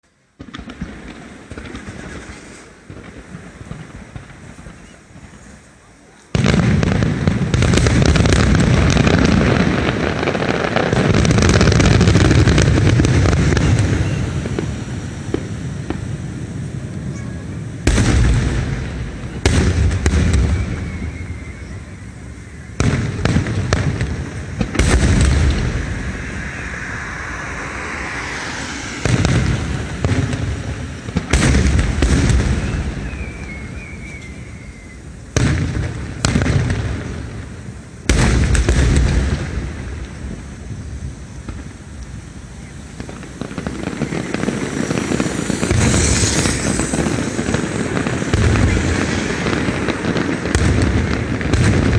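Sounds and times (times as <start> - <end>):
fireworks booming and crackling: 0.0 - 51.9.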